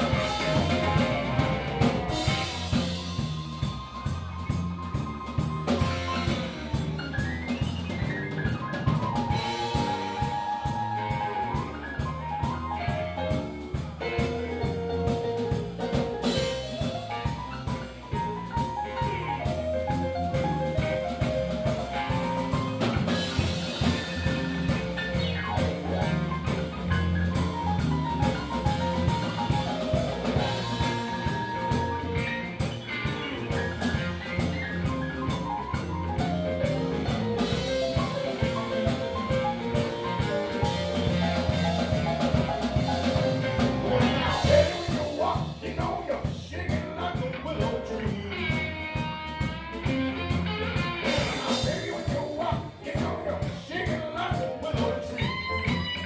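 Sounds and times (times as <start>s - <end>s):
electric guitar lead with bent notes: 0.0s - 45.8s, 47.4s - 53.6s, 54.6s - 56.0s
drum kit: 0.0s - 56.0s
electric bass: 0.0s - 56.0s.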